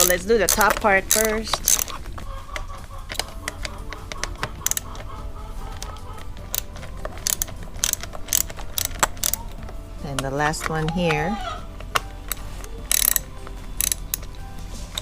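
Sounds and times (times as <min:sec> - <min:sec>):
hand tool clicking: 0:00.0 - 0:05.1, 0:05.8 - 0:11.2, 0:11.8 - 0:15.0
soft background music: 0:00.0 - 0:15.0.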